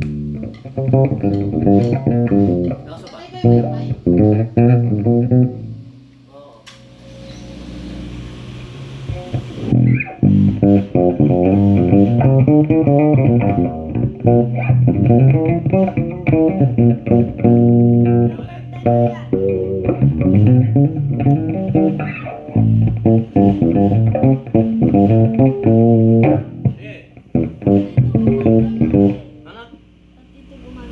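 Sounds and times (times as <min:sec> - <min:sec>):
bass guitar plucked notes: 0:00.0 - 0:06.2, 0:09.6 - 0:29.6
amplifier hiss: 0:00.0 - 0:30.9.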